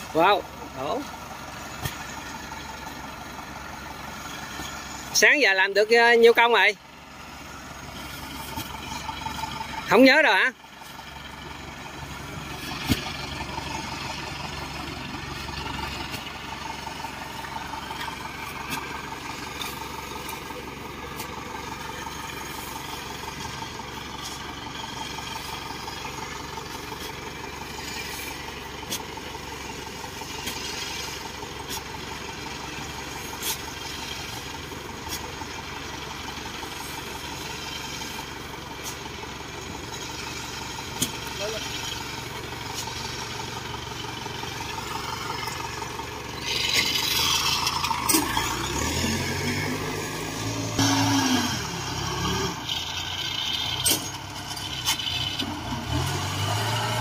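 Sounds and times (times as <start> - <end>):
combine harvester engine hum: 0.0 - 57.0.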